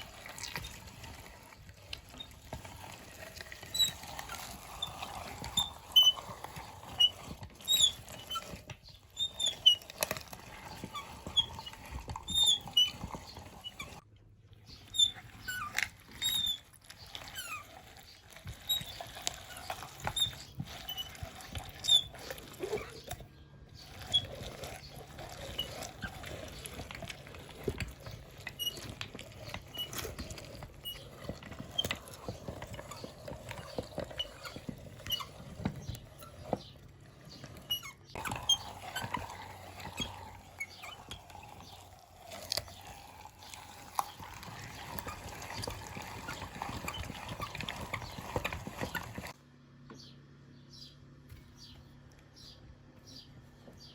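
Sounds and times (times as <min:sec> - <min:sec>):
meat grinder crunching pumpkin: 0:00.0 - 0:49.4.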